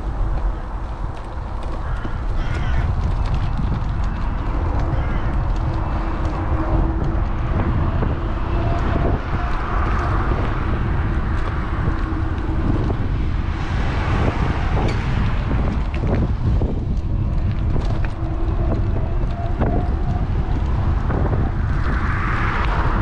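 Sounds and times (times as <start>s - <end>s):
road noise: 0.0s - 23.0s
wind on camera microphone: 0.0s - 23.0s.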